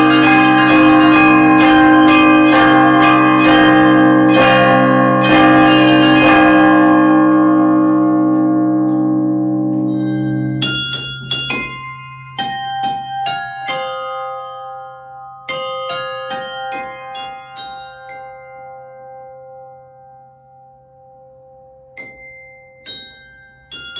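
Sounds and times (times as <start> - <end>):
church bells ringing: 0.0 - 20.4
small high-pitched bells: 0.0 - 23.9.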